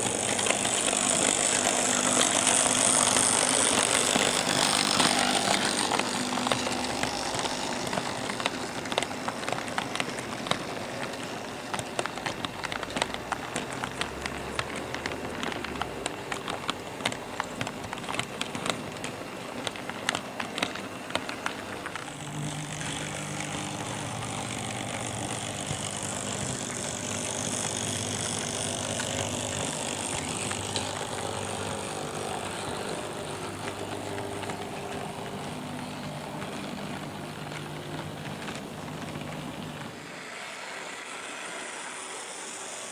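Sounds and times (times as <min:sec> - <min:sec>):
model train running on track: 0:00.0 - 0:42.9.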